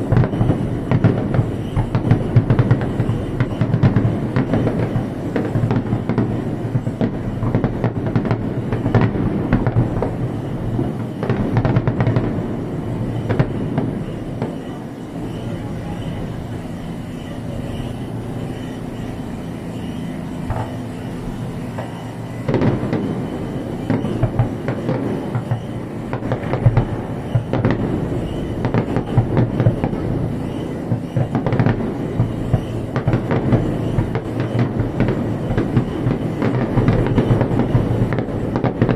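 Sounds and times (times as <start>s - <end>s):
fireworks booms and cracks: 0.0s - 38.9s.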